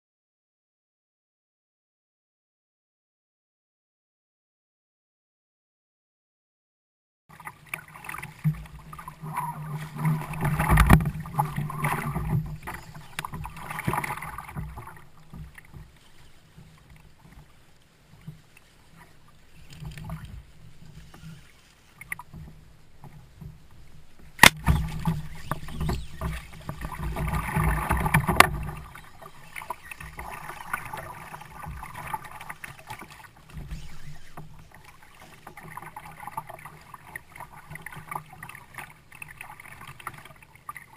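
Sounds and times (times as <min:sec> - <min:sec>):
water splashing around kayak: 0:07.3 - 0:40.9.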